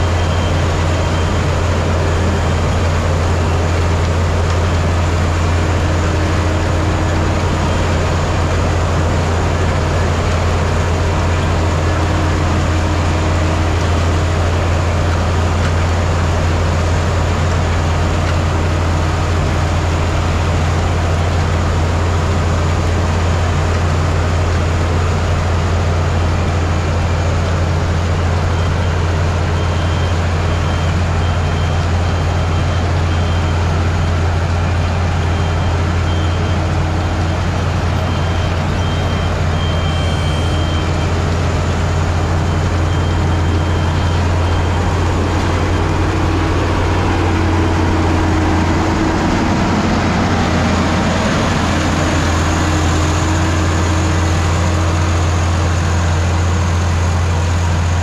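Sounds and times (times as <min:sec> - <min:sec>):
harvester engine drone: 0:00.0 - 0:58.0.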